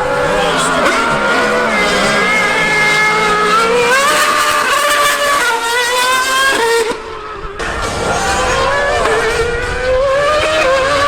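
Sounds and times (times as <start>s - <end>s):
high-revving racing engine: 0.0s - 11.0s.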